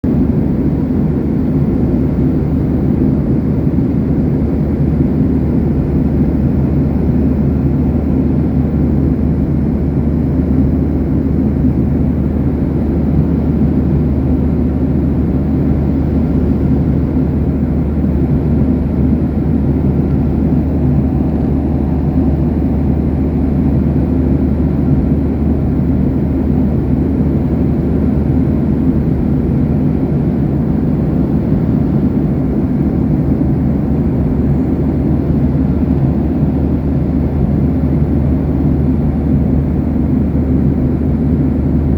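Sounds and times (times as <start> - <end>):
airplane cabin engine drone: 0.0 - 41.9.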